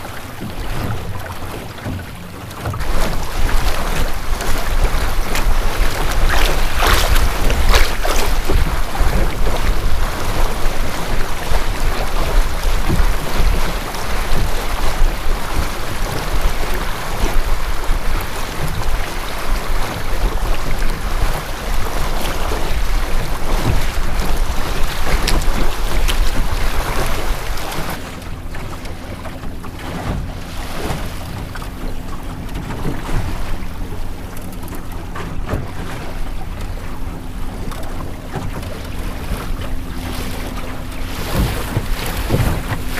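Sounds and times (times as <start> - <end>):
water splashing along a hull: 0.0 - 42.9
wind buffeting microphone: 0.0 - 42.9.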